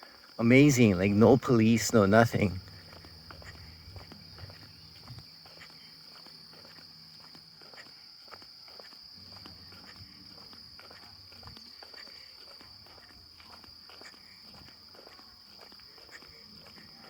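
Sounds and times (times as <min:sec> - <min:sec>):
faint footsteps: 0:00.0 - 0:17.0
insect chirring: 0:00.0 - 0:17.0.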